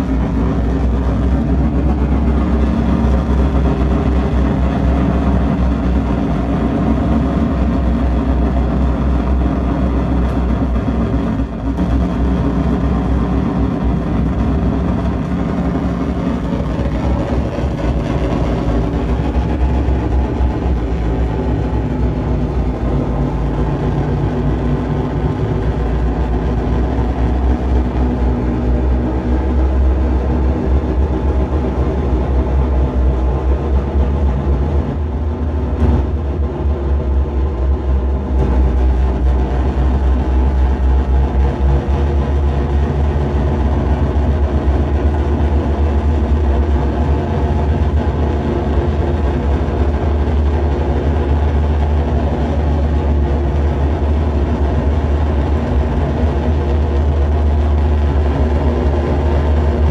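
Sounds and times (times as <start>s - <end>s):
electronic noise music drone: 0.0s - 59.9s.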